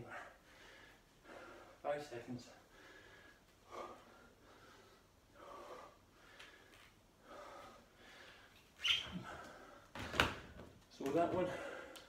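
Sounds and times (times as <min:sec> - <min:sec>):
man breathing heavily: 0:00.0 - 0:01.9, 0:02.6 - 0:10.0, 0:11.4 - 0:12.0.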